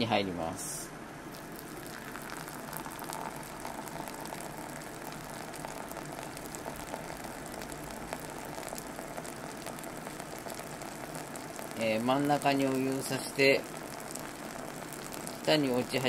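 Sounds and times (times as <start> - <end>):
coffee grounds crackling fizz: 1.2 - 16.0
water pattering onto coffee: 1.2 - 16.0.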